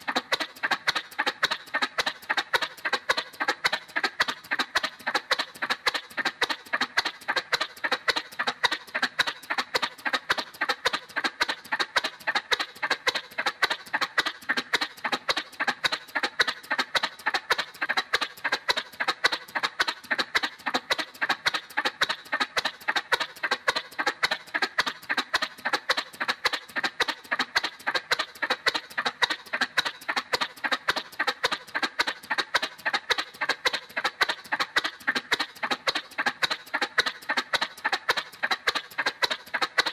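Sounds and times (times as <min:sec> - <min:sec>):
cartoon motorcycle putt-putt: 0:00.0 - 0:39.9.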